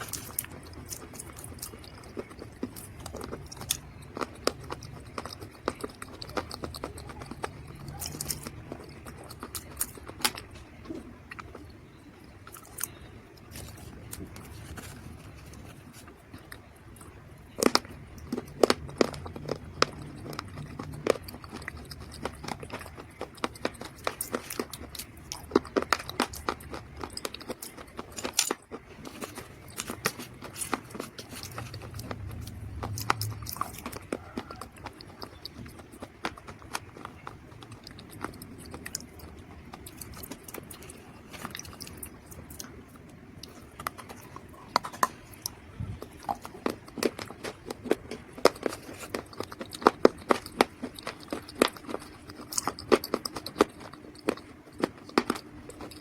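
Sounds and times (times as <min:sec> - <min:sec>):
dried mud crunching and crackling: 0:00.0 - 0:56.0.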